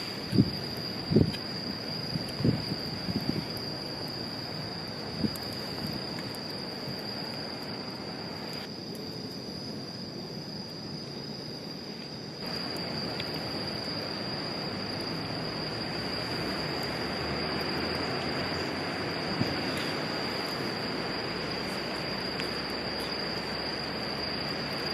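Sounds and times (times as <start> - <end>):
insects droning: 0.0 - 24.9.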